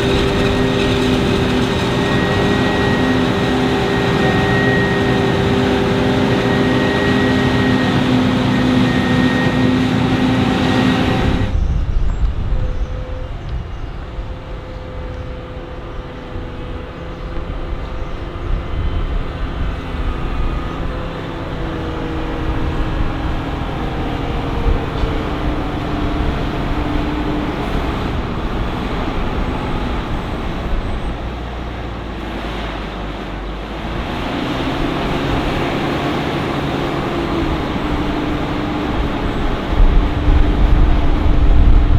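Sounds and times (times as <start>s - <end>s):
diesel farm machinery engines: 0.0s - 41.9s.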